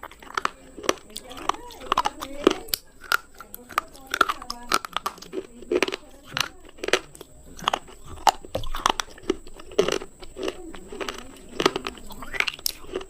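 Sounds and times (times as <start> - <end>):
brittle crunches of biting: 0.0 - 13.0
chewing: 0.0 - 13.0.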